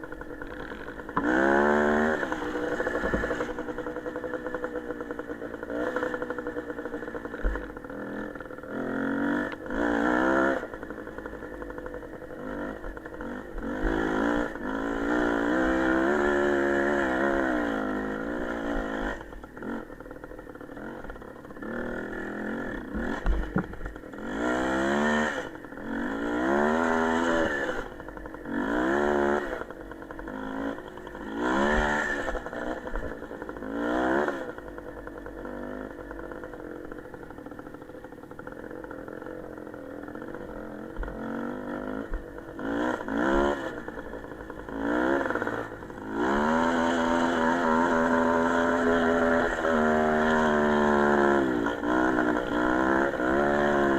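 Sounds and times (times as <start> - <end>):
small motorcycle engine revving: 0.0 - 53.9.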